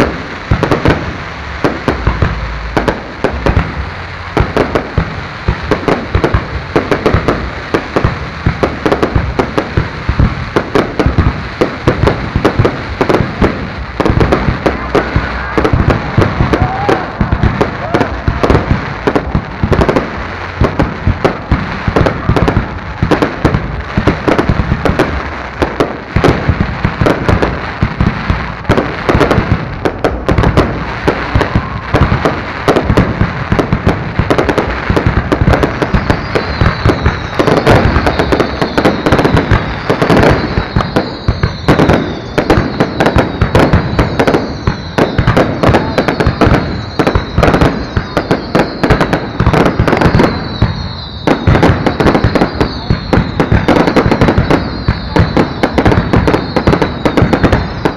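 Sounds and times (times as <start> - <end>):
high falling firework whistles: 0.0 - 25.2, 26.1 - 57.9
fireworks bangs and pops: 0.0 - 57.9.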